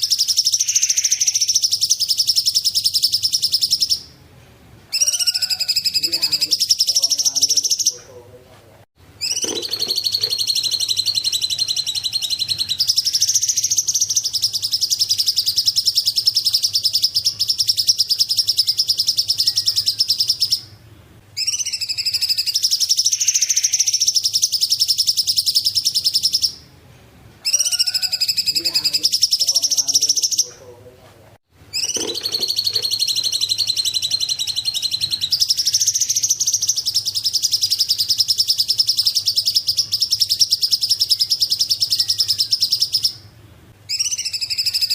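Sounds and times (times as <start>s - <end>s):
songbird high trilling: 0.0s - 4.2s, 4.9s - 8.0s, 9.2s - 20.7s, 21.4s - 26.6s, 31.7s - 43.2s, 43.9s - 44.9s.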